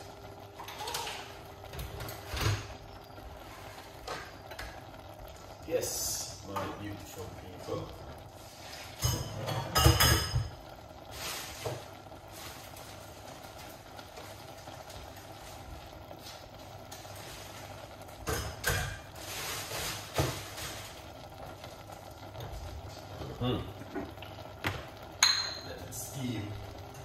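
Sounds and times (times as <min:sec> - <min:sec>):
vegetables sizzling in a pan: 0:00.0 - 0:27.0.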